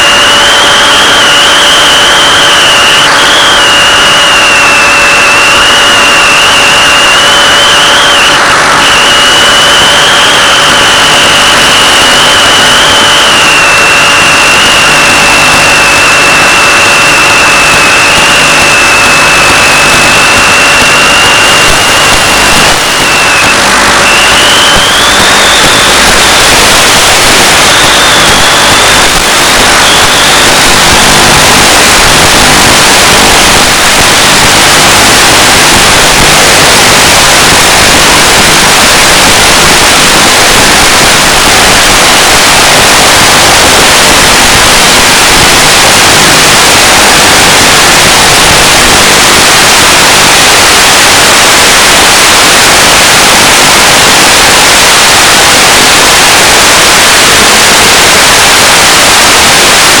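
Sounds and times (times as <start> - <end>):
loud static hiss: 0.0 - 60.0.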